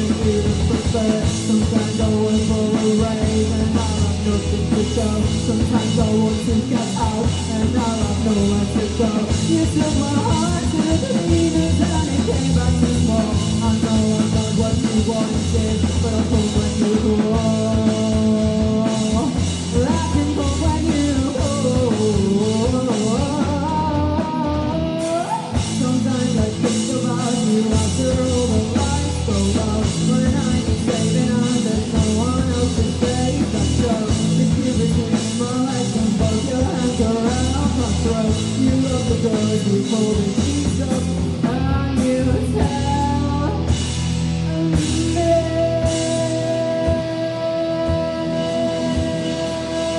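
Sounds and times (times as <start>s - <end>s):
drum kit: 0.0s - 49.9s
person singing: 0.0s - 49.9s
rock band playing live: 0.0s - 49.9s.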